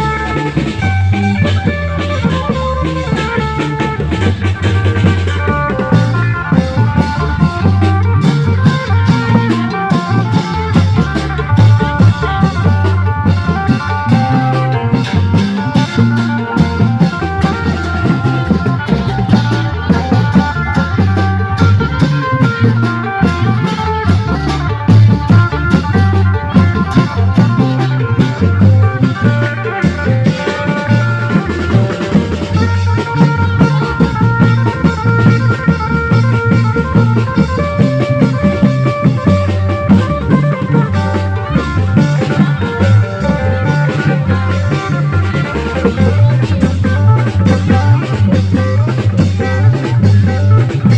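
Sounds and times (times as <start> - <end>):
dense drum beat: 0.0 - 50.9
held melodic notes: 0.0 - 50.9.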